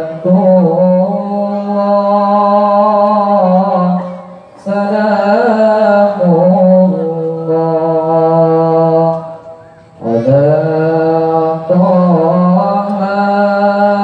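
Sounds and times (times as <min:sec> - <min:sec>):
man reciting melodically through pa: 0:00.0 - 0:14.0.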